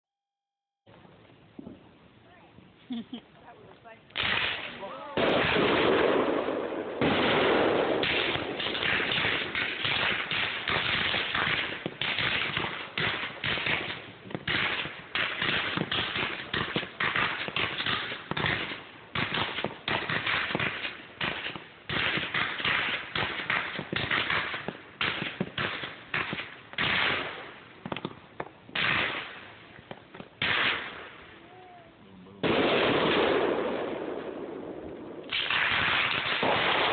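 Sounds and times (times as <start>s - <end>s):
fireworks bursting: 1.2s - 36.9s.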